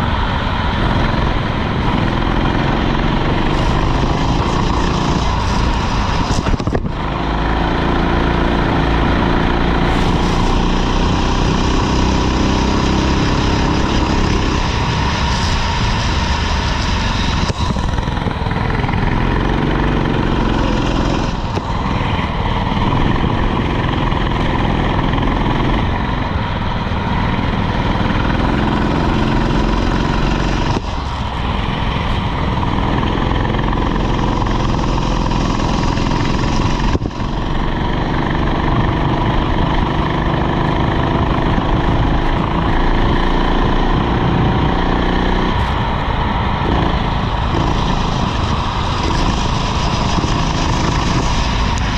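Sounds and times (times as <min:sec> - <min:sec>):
go-kart engine revving: 0:00.0 - 0:51.9
steady noisy hiss: 0:00.0 - 0:51.9.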